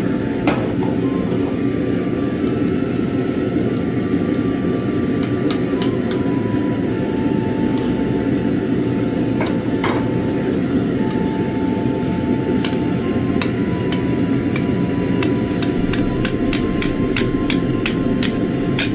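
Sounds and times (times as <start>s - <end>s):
workshop machine noise: 0.0s - 18.9s.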